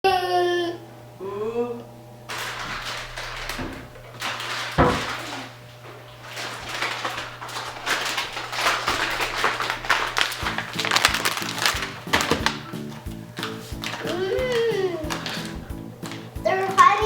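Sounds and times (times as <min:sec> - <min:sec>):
crackly rustling handling noise: 0:02.3 - 0:17.0.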